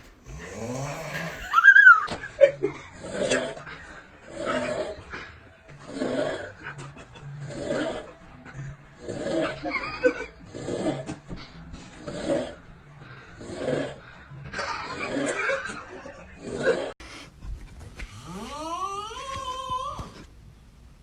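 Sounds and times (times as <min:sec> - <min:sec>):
snoring: 0:00.2 - 0:17.0, 0:18.1 - 0:19.2.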